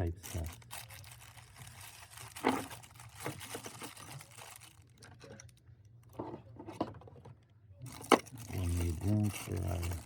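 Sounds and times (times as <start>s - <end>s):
crinkling: 0.0s - 7.0s, 7.8s - 10.0s.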